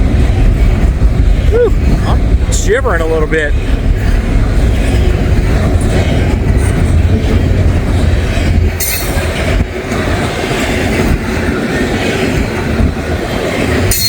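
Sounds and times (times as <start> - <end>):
freight train cars rolling past: 0.0 - 14.0.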